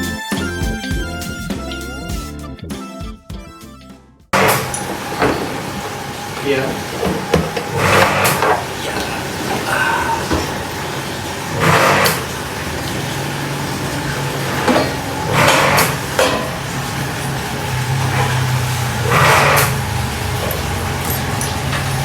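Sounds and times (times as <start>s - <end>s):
motor humming: 4.4s - 22.0s.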